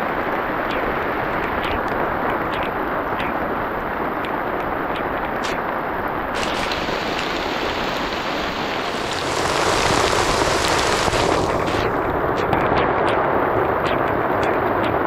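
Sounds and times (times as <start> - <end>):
heavy rain pouring: 0.0 - 12.6.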